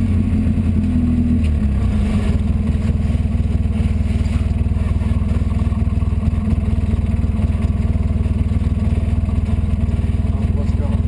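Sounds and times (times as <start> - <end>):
vehicle engine running under load: 0.0 - 11.0.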